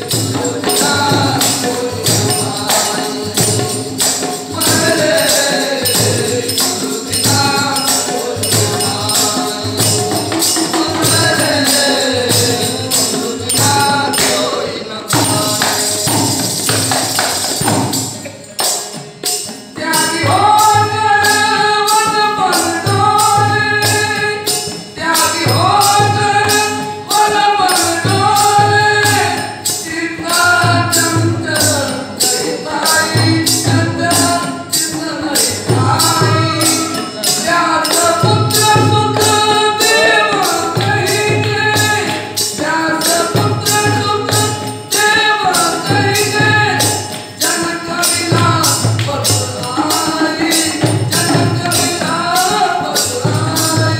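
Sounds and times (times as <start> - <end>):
jingling percussion beat: 0.0 - 53.9.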